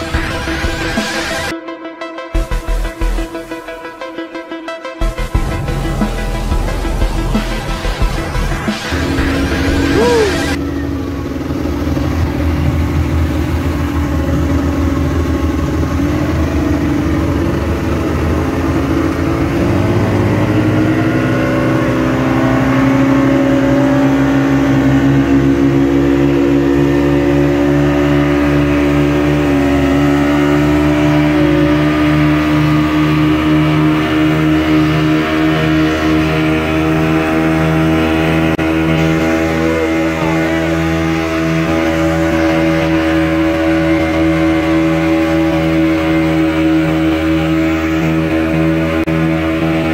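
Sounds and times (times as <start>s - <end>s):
outboard motor running: 5.0s - 49.9s
water rushing: 5.3s - 10.8s, 11.7s - 49.9s.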